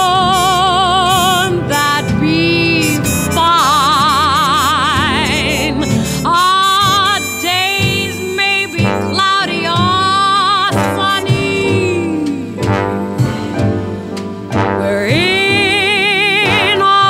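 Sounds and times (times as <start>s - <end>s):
woman singing jazz: 0.0s - 13.4s, 14.6s - 17.0s
orchestral accompaniment: 0.0s - 17.0s.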